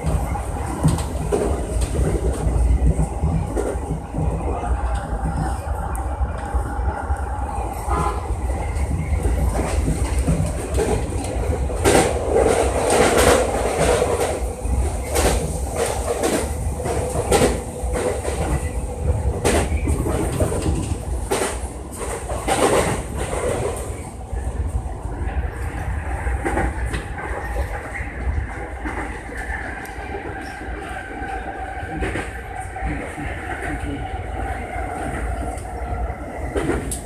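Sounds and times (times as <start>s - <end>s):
train running low rumble: 0.0s - 37.0s.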